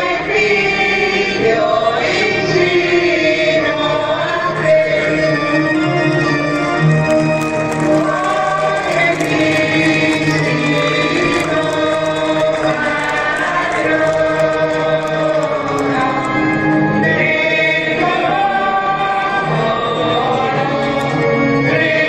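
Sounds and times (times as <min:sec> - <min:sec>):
choir singing a hymn: 0:00.0 - 0:22.0.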